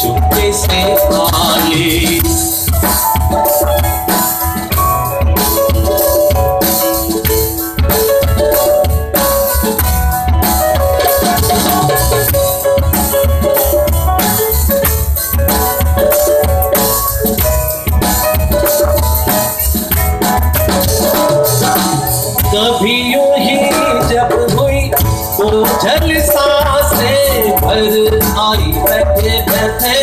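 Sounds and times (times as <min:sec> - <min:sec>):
drum kit steady beat: 0:00.0 - 0:30.0
live band playing: 0:00.0 - 0:30.0.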